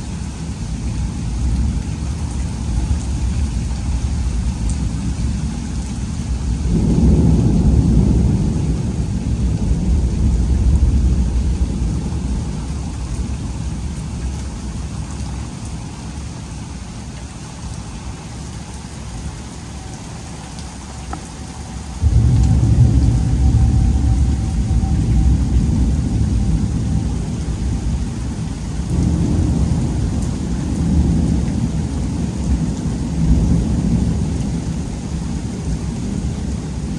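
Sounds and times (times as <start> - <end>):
rain hiss: 0.0 - 36.9
thunder rumbling: 1.1 - 15.3, 19.3 - 36.9.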